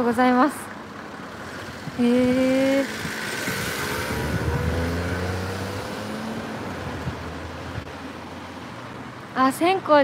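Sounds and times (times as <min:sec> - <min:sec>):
vehicle passing on street: 0:00.0 - 0:10.0.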